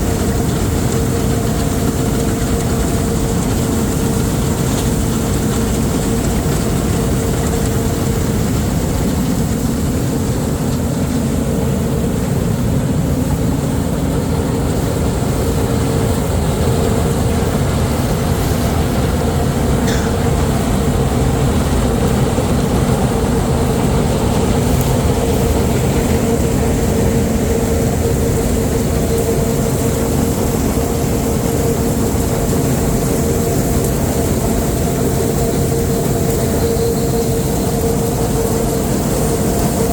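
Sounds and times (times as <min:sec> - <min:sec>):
constant machine whine: 0:00.0 - 0:39.9
deep engine rumble: 0:00.0 - 0:39.9.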